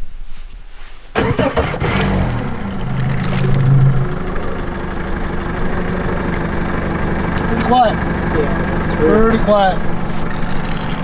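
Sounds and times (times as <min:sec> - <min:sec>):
outboard motor starting and idling: 0:01.2 - 0:11.0.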